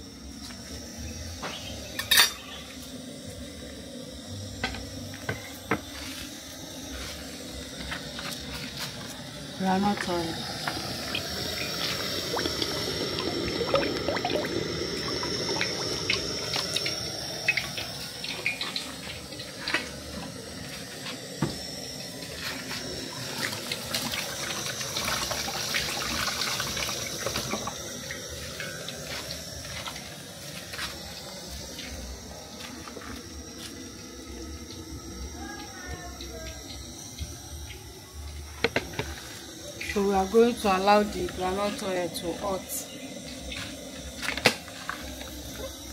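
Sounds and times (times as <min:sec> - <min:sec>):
oil gurgling from a bottle: 0:03.0 - 0:35.4, 0:36.2 - 0:45.9.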